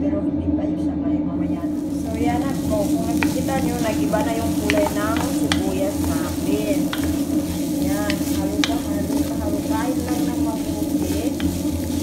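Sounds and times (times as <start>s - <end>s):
steady low hum: 0.0s - 12.0s
onions sizzling in oil: 1.7s - 12.0s
spatula scraping a pot: 1.8s - 12.0s.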